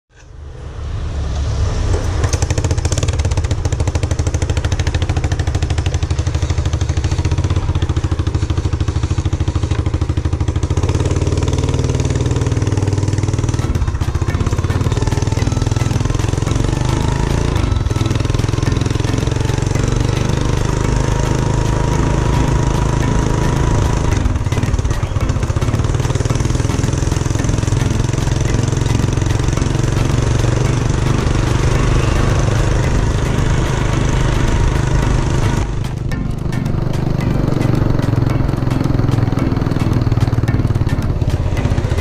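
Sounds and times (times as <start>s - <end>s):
scooter engine running: 1.8s - 42.0s.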